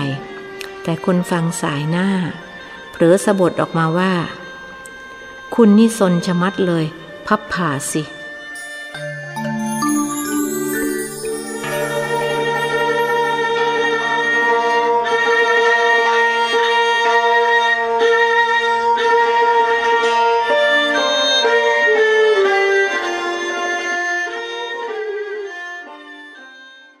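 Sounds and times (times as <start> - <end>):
slow violin melody: 0.0 - 27.0.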